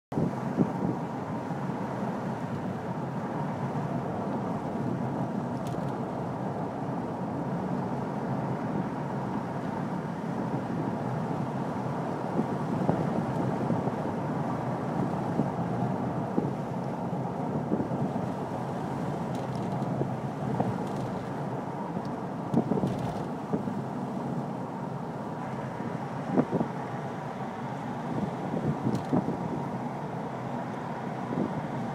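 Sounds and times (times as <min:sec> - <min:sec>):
car road and engine noise: 0:00.1 - 0:31.9.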